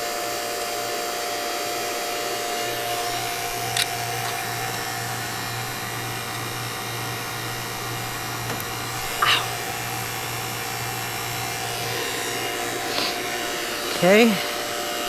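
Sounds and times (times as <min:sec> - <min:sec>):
vacuum pump running: 0:00.0 - 0:15.0.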